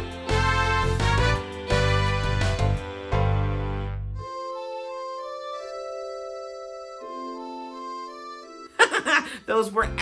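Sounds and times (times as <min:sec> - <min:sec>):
upbeat music with bass and keyboard: 0:00.0 - 0:10.0.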